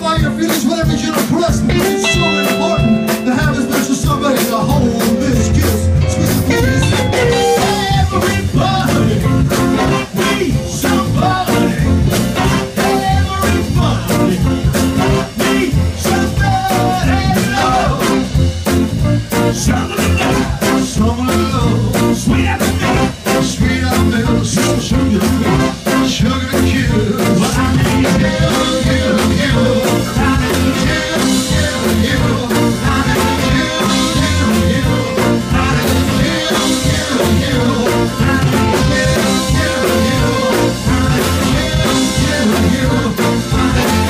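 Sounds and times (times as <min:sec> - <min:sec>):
live band with horn section: 0:00.0 - 0:44.0.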